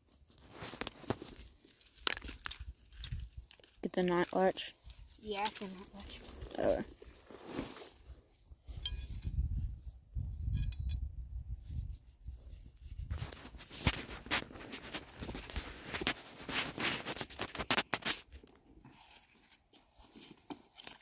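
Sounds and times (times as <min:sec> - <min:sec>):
dry grass rustling and crackling: 0:00.0 - 0:08.4, 0:12.5 - 0:21.0.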